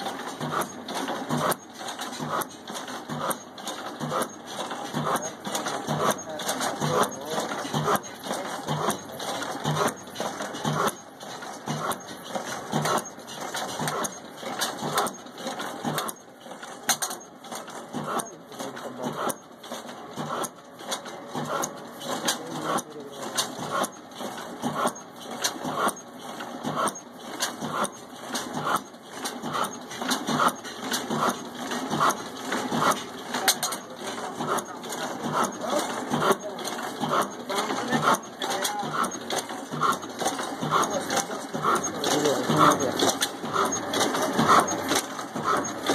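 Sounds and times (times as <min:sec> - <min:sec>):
diesel engine knocking slowly: 0:00.0 - 0:45.9
valve gear clatter: 0:00.0 - 0:45.9.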